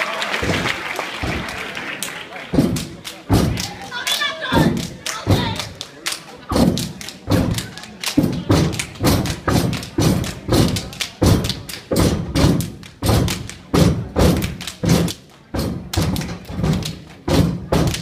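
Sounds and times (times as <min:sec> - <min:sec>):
people clapping: 0:00.0 - 0:18.0
stomping on hollow stage: 0:00.4 - 0:01.7, 0:02.5 - 0:05.8, 0:06.5 - 0:18.0.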